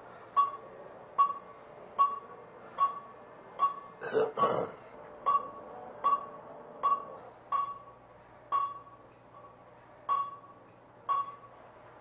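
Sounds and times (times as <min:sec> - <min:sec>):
heart monitor beeping: 0:00.3 - 0:04.6, 0:05.2 - 0:11.6.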